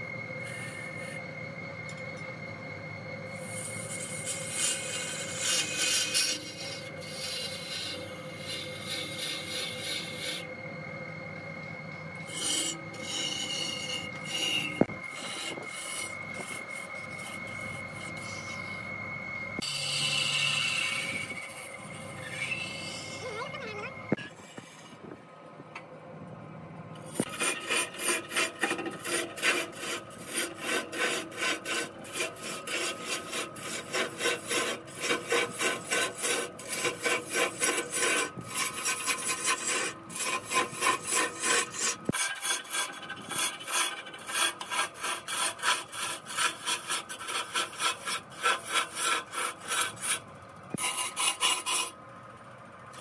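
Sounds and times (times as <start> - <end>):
lathe tool scraping wood: 0.4 - 1.3, 3.3 - 10.6, 11.4 - 19.0, 19.6 - 25.0, 27.0 - 52.0.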